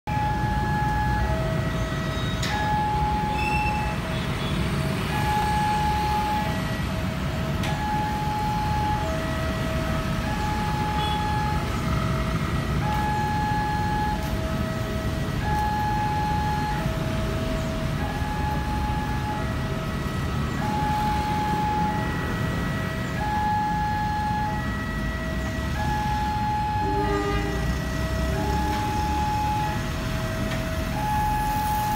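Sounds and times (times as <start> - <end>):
street traffic rumble: 0.0 - 31.9
level crossing warning tones: 0.1 - 31.9.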